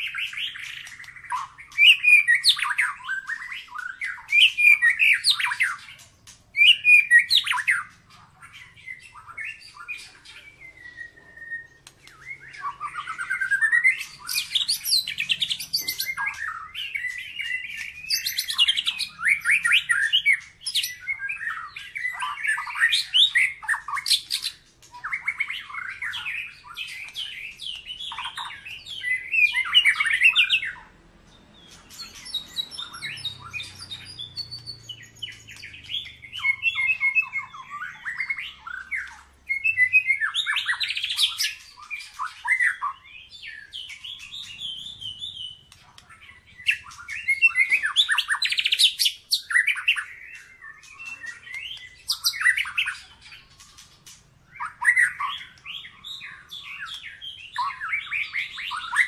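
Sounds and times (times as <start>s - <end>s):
bird singing whistled phrases: 0.0s - 6.0s, 6.6s - 8.0s, 8.6s - 30.8s, 31.6s - 53.9s, 54.5s - 59.0s.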